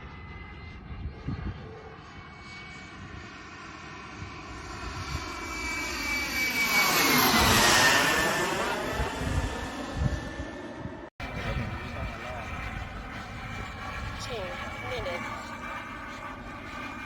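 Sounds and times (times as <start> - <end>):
model jet turbine flyby: 0.0 - 17.0.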